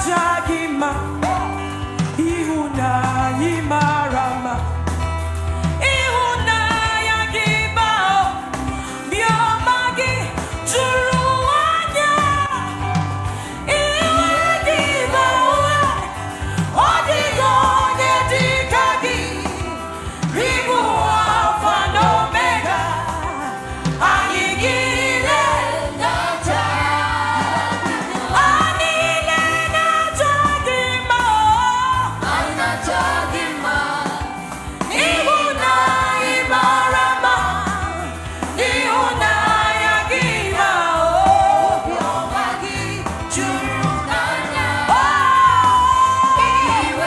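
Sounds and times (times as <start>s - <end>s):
band playing: 0.0s - 47.0s
bass line: 0.0s - 47.0s
steady drum beat: 0.0s - 47.0s
voices singing gospel: 0.0s - 47.0s.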